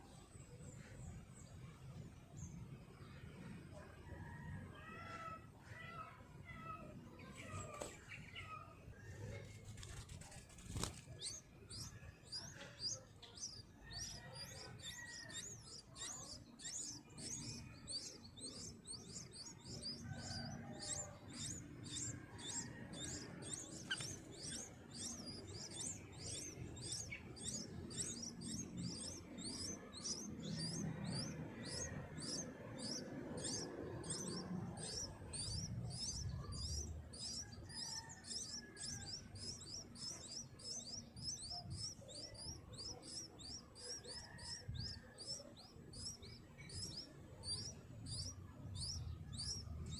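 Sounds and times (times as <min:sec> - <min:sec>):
soft low bird calls: 0:04.2 - 0:49.8.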